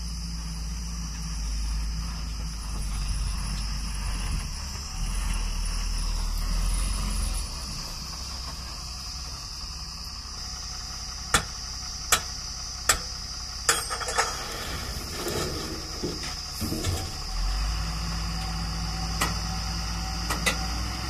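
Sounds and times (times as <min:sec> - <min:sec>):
diesel truck engine rumbling: 0:00.0 - 0:21.0.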